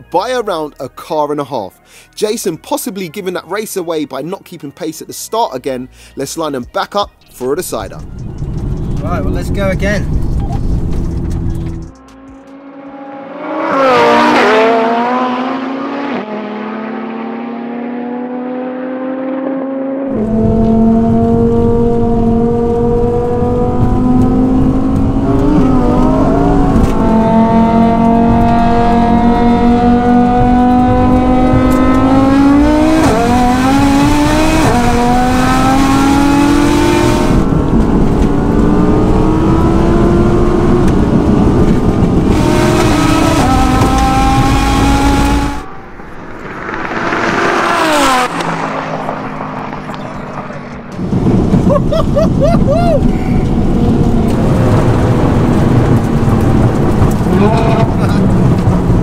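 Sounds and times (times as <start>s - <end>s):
car engines accelerating: 7.4s - 59.0s
cars passing at speed: 8.4s - 59.0s.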